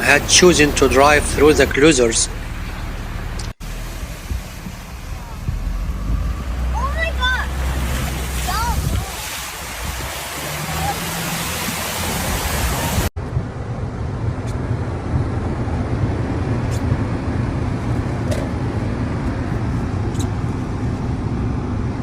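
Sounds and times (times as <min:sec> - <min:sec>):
vehicle and road rumble: 0:00.0 - 0:22.0.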